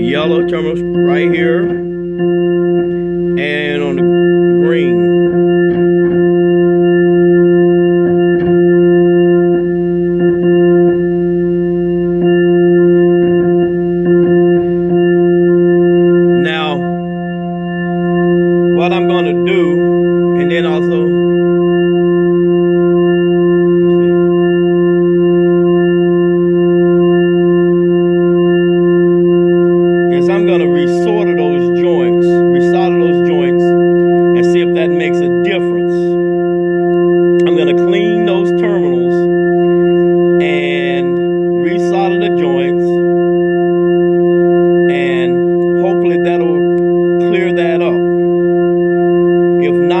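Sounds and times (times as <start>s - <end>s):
amplifier crackles: 0.0s - 40.4s, 41.1s - 50.0s
organ tone held steady: 0.0s - 50.0s.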